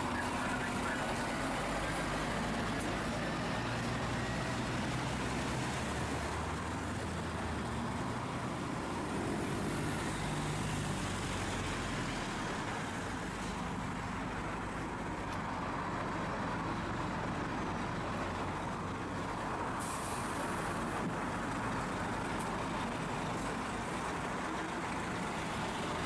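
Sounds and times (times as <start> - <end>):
lorry diesel engines: 0.0 - 26.0
road noise: 0.0 - 26.0.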